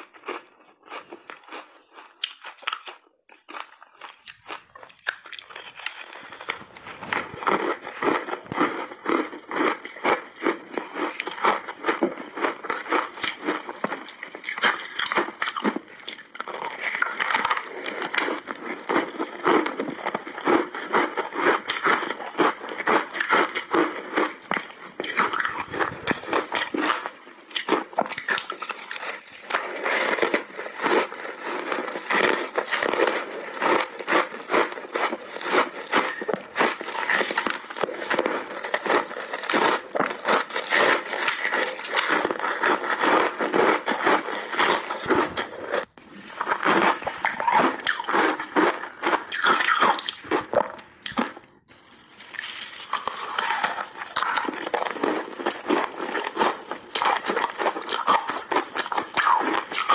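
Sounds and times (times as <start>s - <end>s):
crunching ice: 0.0s - 51.4s, 52.2s - 59.9s.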